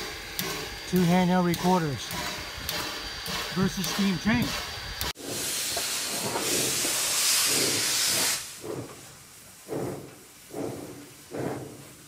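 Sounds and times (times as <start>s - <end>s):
loud steam hiss: 0.0s - 12.0s
steam locomotive exhaust chuffs: 0.0s - 12.0s.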